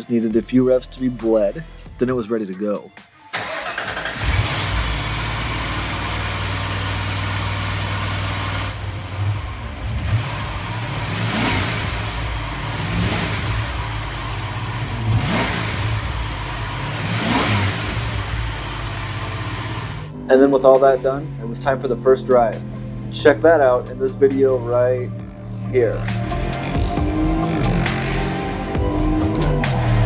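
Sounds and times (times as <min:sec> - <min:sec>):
car engine idling and revving: 0:03.4 - 0:30.0.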